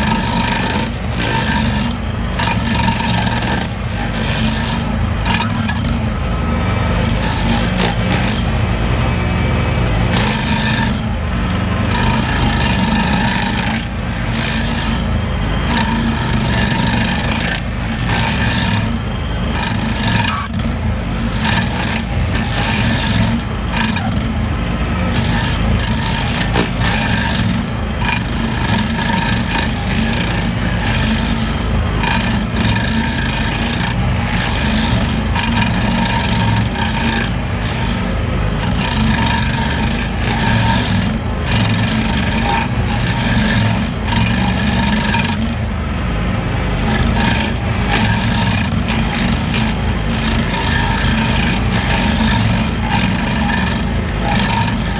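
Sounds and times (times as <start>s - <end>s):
rasping cutting noise: 0.0s - 54.9s
small petrol engine running: 0.0s - 54.9s.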